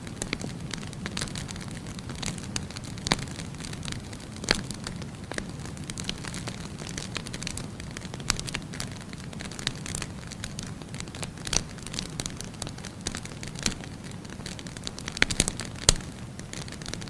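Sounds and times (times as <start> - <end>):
fire rumbling in fireplace: 0.0 - 17.0
firewood crackling and popping: 0.0 - 17.0.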